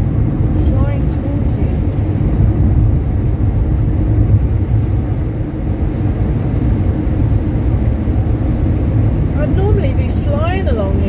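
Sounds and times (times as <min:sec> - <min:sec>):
car engine and road noise rumble: 0:00.0 - 0:11.0.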